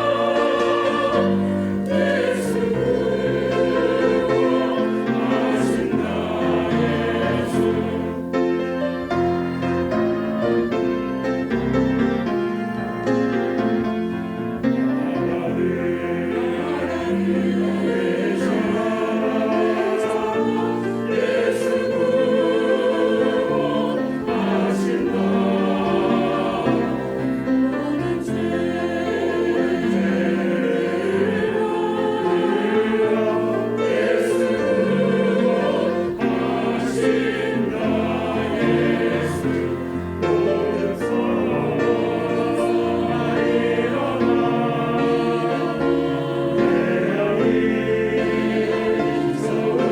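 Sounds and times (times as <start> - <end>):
church choir singing: 0.0 - 49.9.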